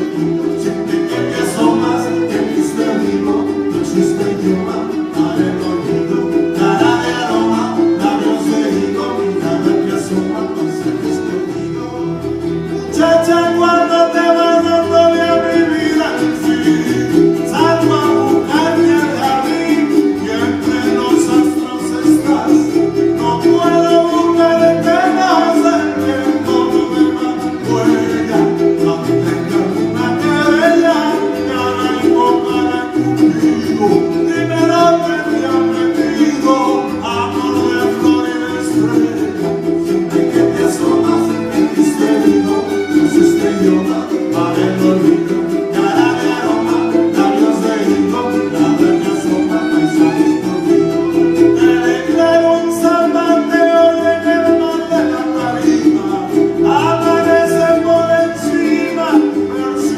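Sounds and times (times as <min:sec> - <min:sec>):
latin american song with accompaniment: 0:00.0 - 0:59.9.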